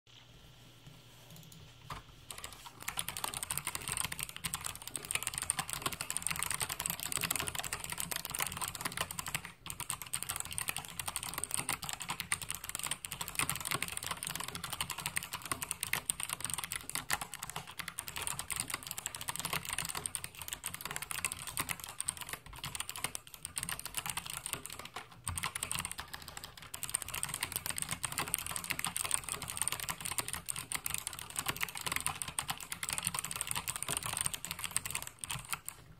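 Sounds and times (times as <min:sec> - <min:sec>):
typing on clicky mechanical keyboard: 0:02.3 - 0:35.9.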